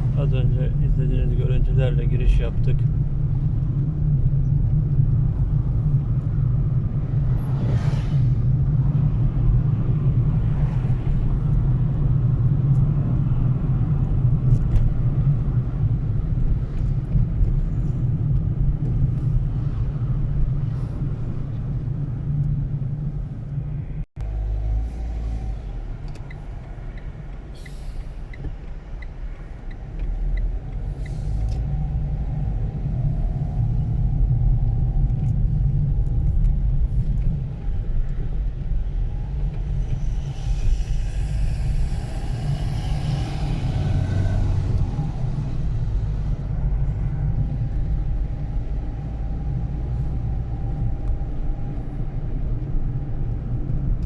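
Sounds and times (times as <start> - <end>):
road vehicle rumble: 0.0 - 54.0.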